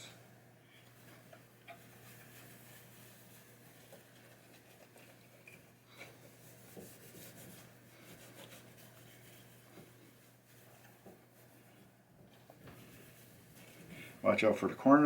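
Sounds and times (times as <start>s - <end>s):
wax pad rubbing: 0.9s - 14.2s.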